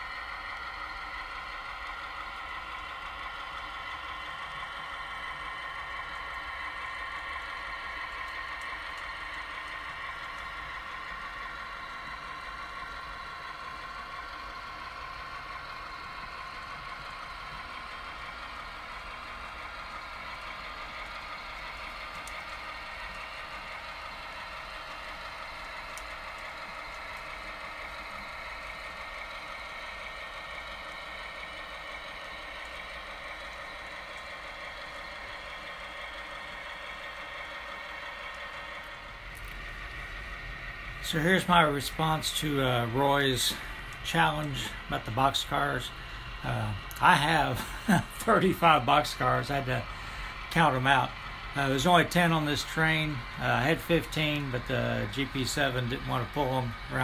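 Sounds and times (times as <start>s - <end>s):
model train wheels whirring: 0.0s - 57.0s.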